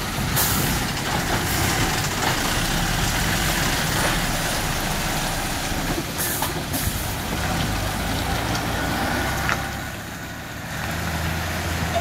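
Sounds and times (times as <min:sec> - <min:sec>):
diesel truck driving past: 0:00.0 - 0:12.0.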